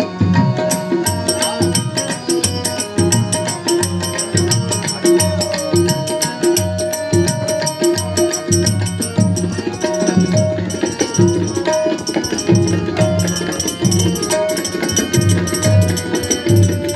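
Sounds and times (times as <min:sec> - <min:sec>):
tabla drumming: 0:00.0 - 0:16.9.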